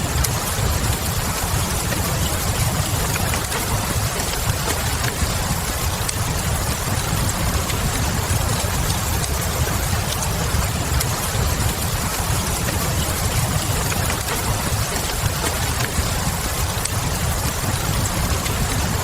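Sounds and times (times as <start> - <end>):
deep constant rumble: 0.0 - 19.0
fire crackling: 0.0 - 19.0
rain hissing: 0.0 - 19.0.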